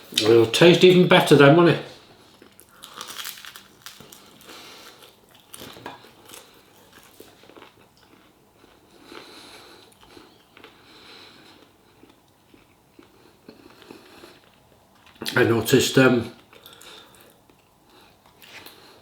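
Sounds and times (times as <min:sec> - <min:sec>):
person chewing food: 0:02.0 - 0:15.3, 0:16.4 - 0:19.0.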